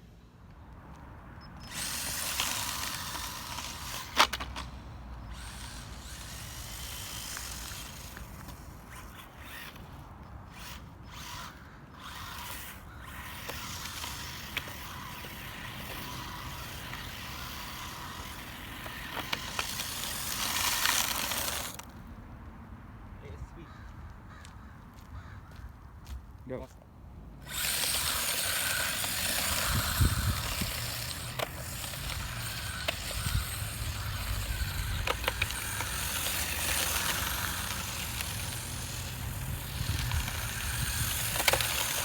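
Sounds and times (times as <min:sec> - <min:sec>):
rc car electric motor whirring: 0:01.4 - 0:22.0, 0:27.4 - 0:42.0.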